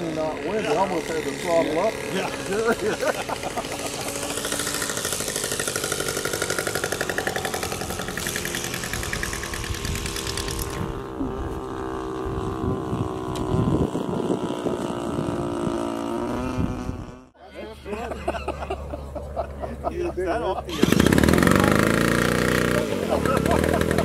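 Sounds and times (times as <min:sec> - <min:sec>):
model airplane engine running: 0:00.0 - 0:24.0.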